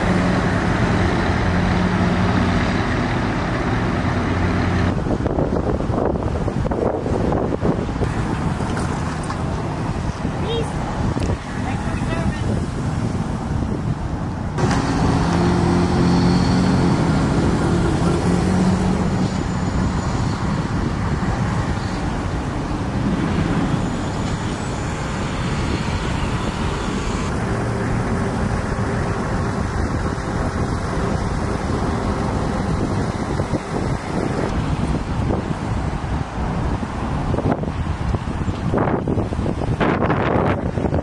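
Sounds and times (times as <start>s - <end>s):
passing vehicle engine hum: 0.0s - 41.0s
road traffic passing: 0.0s - 41.0s.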